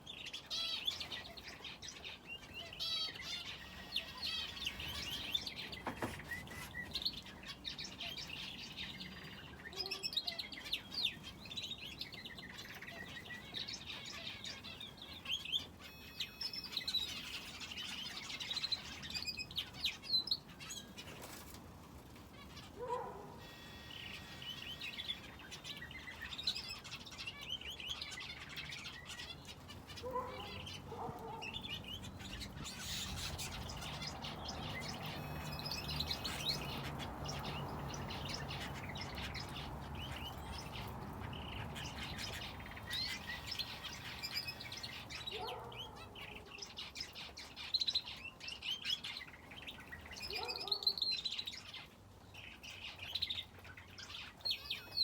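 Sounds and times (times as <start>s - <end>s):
finches and canary chirping: 0.0s - 55.0s.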